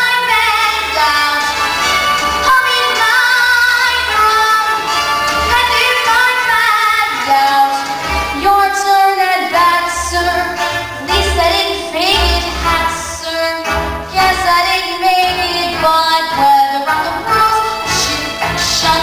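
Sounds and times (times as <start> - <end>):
girl singing into microphone: 0.0 - 1.5, 2.4 - 4.8, 5.5 - 19.0
instrumental accompaniment: 0.0 - 19.0.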